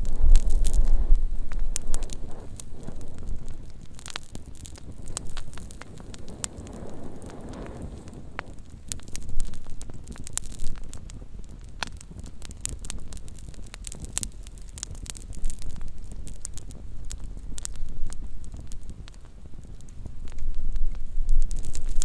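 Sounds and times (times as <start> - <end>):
campfire crackling: 0.0 - 22.0
low steady rumble: 0.0 - 22.0.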